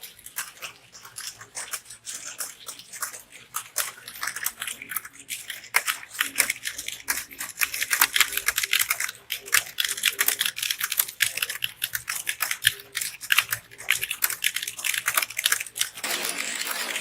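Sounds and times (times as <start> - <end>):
rapid typing on keyboards: 0.1 - 17.0.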